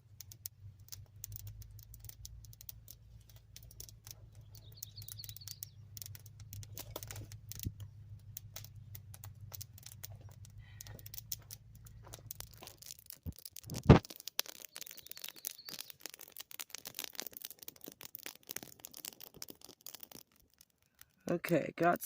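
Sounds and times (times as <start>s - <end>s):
campfire wood crackling: 0.0s - 22.0s.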